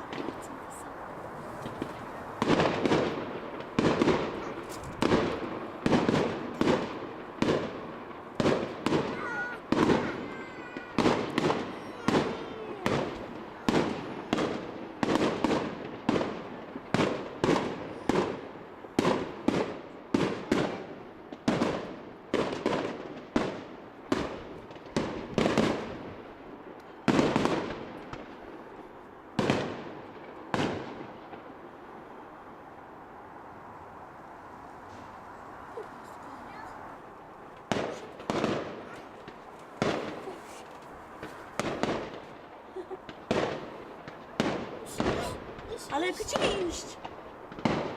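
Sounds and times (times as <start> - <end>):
firework bursts with echo: 0.0 - 32.7, 34.8 - 47.9.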